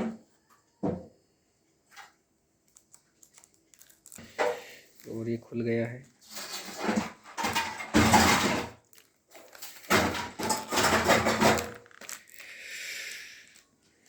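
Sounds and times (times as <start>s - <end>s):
plastic packaging crinkling: 2.6s - 14.0s.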